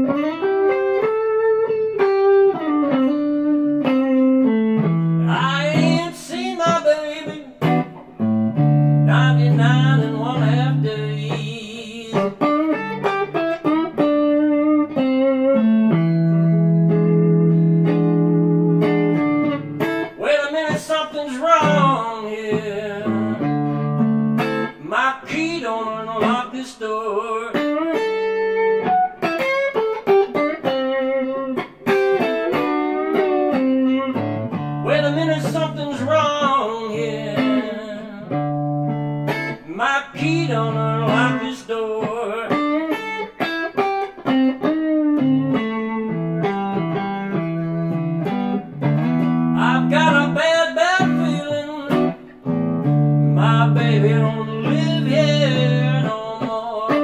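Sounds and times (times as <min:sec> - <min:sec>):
electric guitar blues lead: 0:00.0 - 0:57.0.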